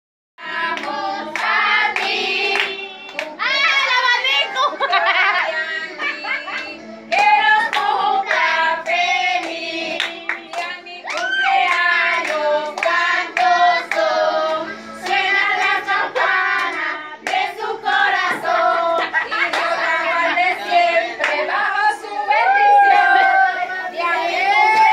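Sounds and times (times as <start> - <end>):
people clapping: 0.4 - 4.0, 6.0 - 21.6, 22.4 - 23.6, 24.4 - 24.9
women and children singing: 0.4 - 24.9.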